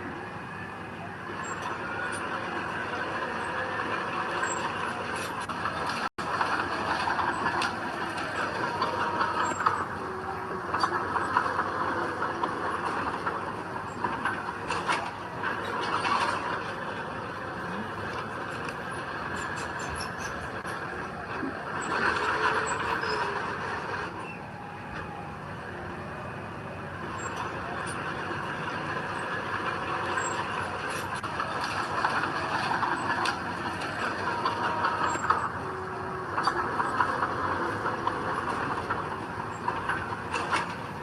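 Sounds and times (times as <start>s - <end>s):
diesel machinery engine: 0.0s - 41.0s.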